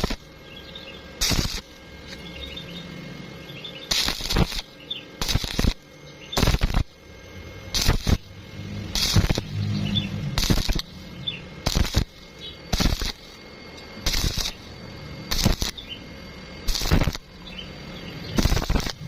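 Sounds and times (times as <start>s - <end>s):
welding arc crackling: 0.0s - 19.0s.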